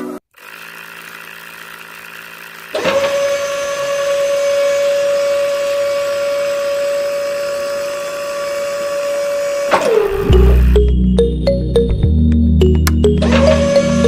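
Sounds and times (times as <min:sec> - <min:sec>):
small motor high-pitched whine: 0:00.0 - 0:10.8, 0:13.2 - 0:14.0.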